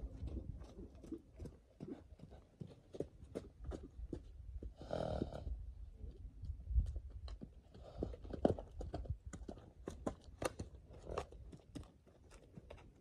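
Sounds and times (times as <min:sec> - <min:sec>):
hooves thudding on dirt: 0:00.0 - 0:13.0.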